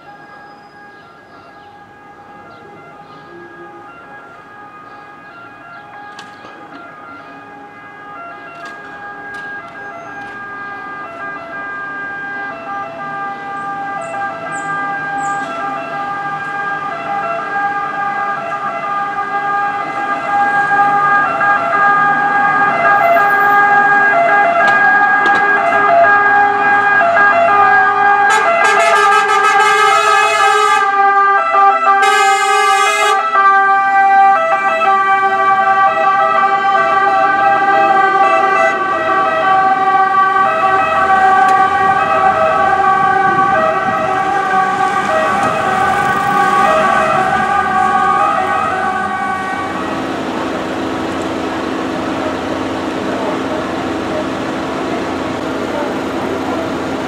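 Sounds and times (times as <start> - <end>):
fire engine sirens: 0.0 - 57.0
harsh siren blasts: 0.0 - 57.0.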